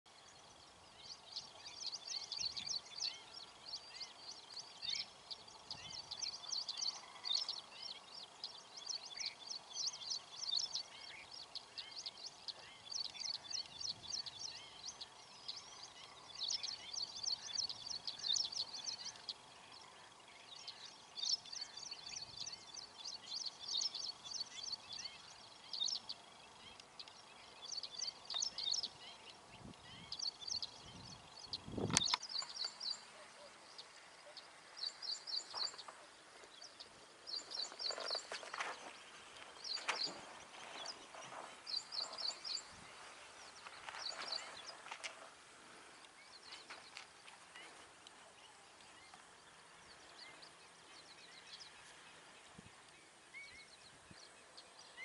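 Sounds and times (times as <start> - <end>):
faint background hiss: 0.1 - 55.0
small birds chirping and trilling: 0.1 - 55.0.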